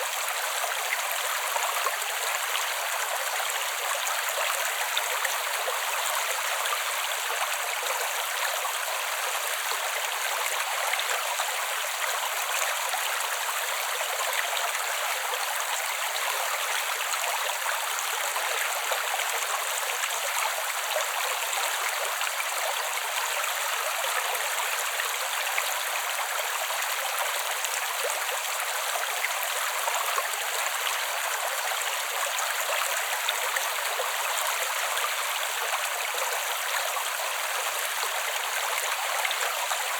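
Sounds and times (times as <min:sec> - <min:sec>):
creek water flowing over stones: 0:00.0 - 0:39.9.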